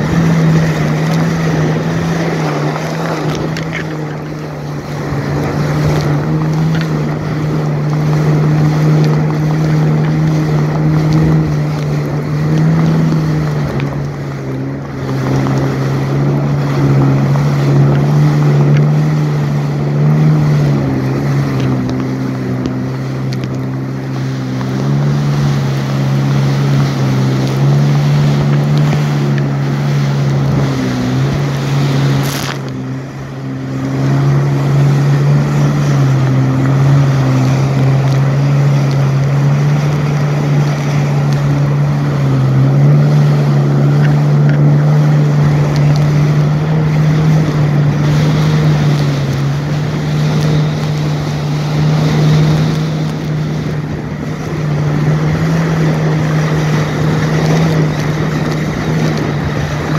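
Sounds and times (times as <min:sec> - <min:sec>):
jet ski engine drone: 0:00.0 - 0:59.9
wind buffeting microphone: 0:00.0 - 0:59.9.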